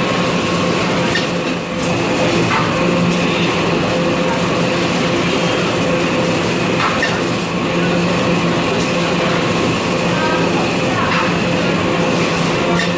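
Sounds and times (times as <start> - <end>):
packing machine hum and rumble: 0.0 - 12.9.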